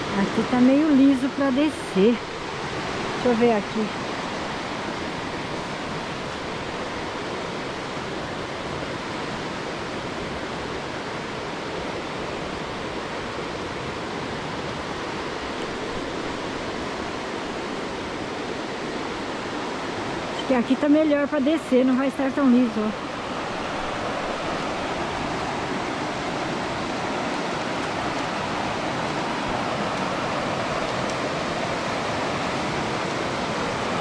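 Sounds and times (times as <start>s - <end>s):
river rapids rushing over rocks: 0.0s - 34.0s.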